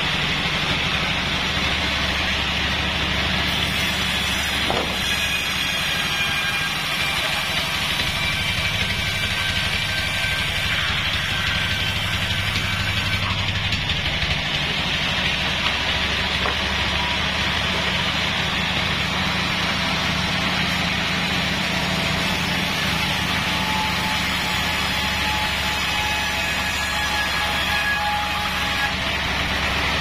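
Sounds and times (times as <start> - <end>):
band sawmill running: 0.0 - 30.0
saw cutting log: 0.0 - 30.0.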